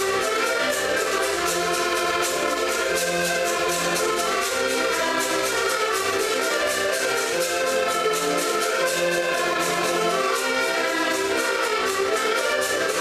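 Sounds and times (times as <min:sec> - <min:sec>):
button accordions playing folk tune: 0:00.0 - 0:13.0.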